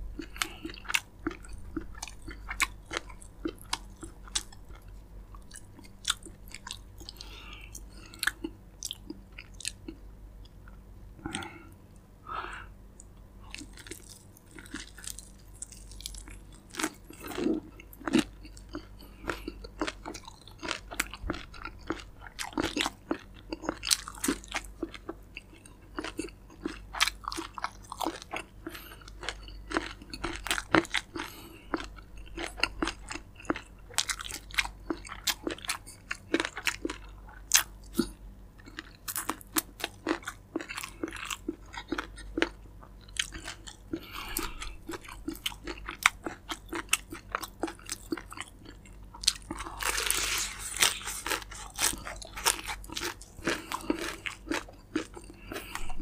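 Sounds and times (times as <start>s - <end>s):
chewing crunchy fried chicken: 0.2s - 11.8s, 13.0s - 56.0s.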